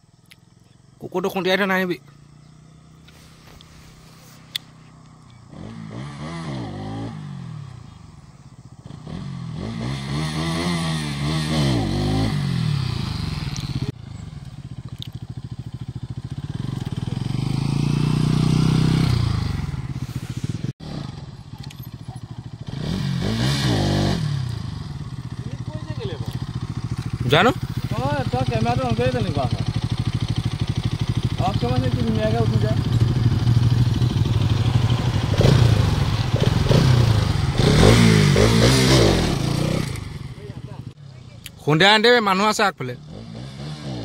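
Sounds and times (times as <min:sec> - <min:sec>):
motorcycle engine revving: 0:00.4 - 0:44.0.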